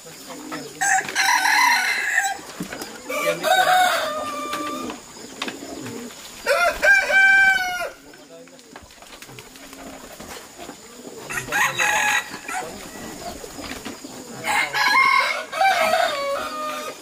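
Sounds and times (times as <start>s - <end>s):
roosters crowing: 0.4s - 8.2s, 9.4s - 17.0s.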